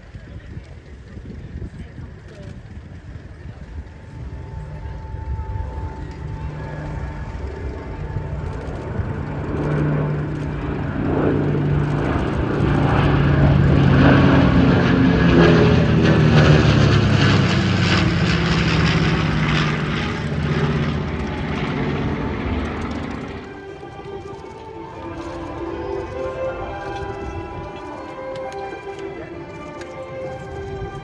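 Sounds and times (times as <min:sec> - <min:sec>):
propeller planes flying past: 0:00.0 - 0:31.0.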